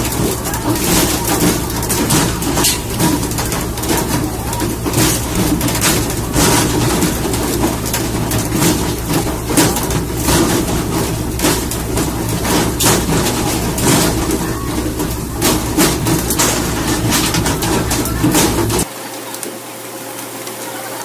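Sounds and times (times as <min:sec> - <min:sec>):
boat engine droning: 0:00.0 - 0:18.8.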